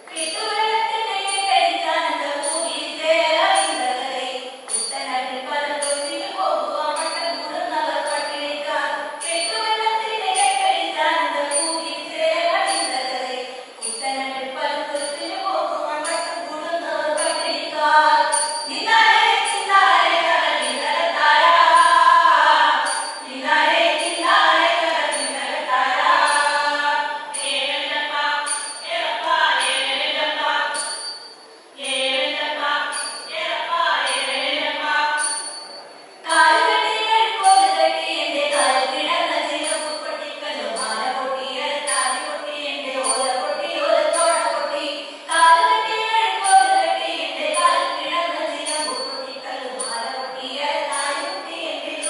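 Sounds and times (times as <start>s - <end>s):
women singing folk song together: 0.0s - 31.0s, 31.8s - 35.4s, 36.2s - 52.0s.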